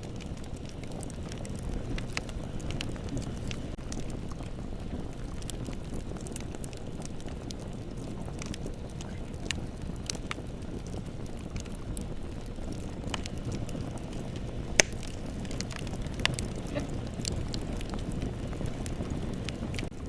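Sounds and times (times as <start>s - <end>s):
bonfire flames rumbling: 0.0s - 20.0s
burning wood crackling and popping: 0.0s - 20.0s.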